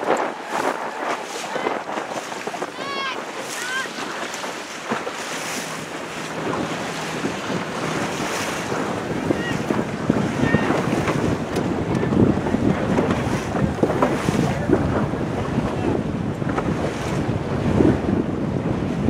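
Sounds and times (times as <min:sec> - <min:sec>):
water slapping boat hull: 0:00.0 - 0:19.0
wind buffeting microphone: 0:00.0 - 0:19.0.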